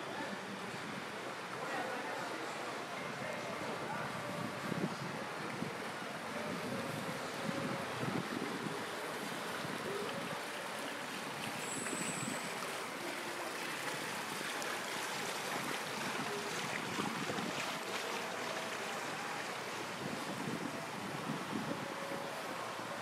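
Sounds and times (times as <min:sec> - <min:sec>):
water flowing in a channel: 0:00.0 - 0:23.0.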